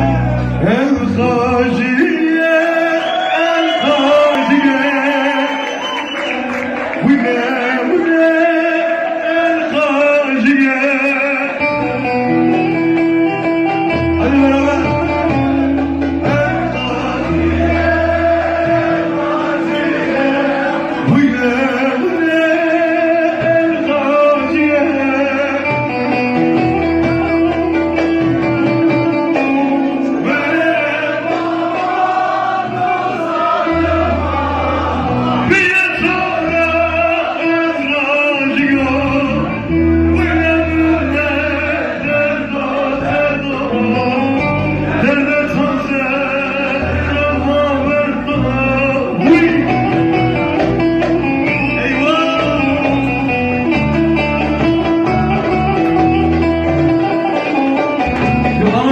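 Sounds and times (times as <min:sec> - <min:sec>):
instrumental accompaniment with bass notes: 0:00.0 - 0:58.9
man singing: 0:00.0 - 0:58.9.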